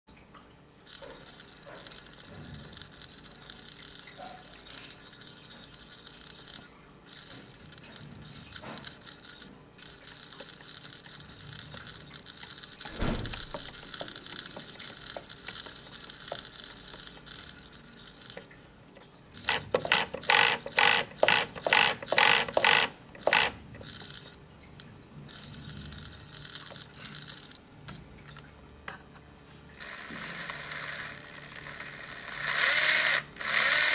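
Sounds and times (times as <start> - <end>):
small motor whirring: 0.9 - 18.6, 19.4 - 24.4, 25.3 - 27.6, 29.8 - 33.9.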